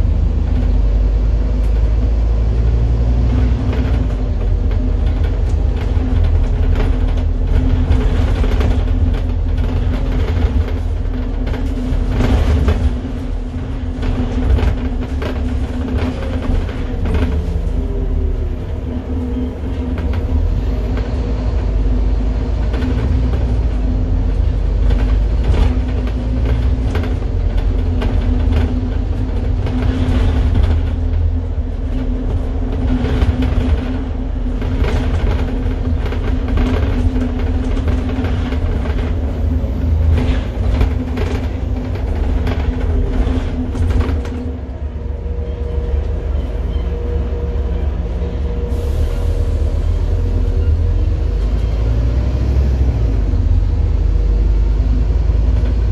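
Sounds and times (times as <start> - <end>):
bus engine rumbling: 0.0 - 55.9
rattles and clicks from bus body: 0.0 - 55.9.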